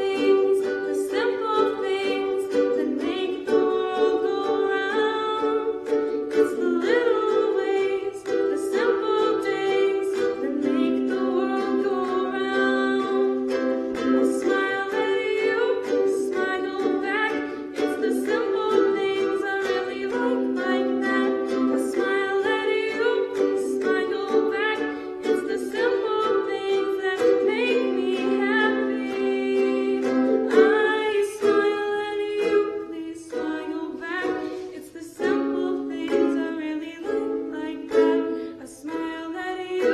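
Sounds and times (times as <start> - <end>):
person singing: 0.0 - 39.9
strummed string instrument: 0.0 - 39.9.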